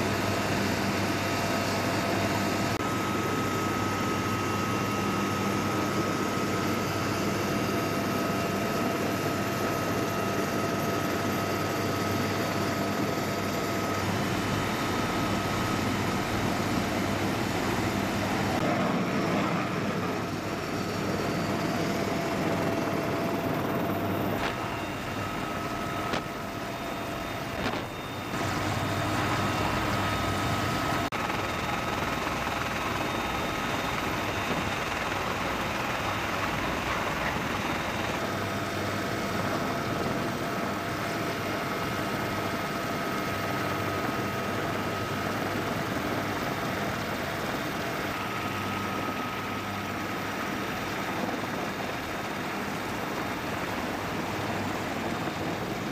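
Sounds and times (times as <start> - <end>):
helicopter rotor noise: 0.0 - 55.9
helicopter turbine whine: 0.0 - 55.9.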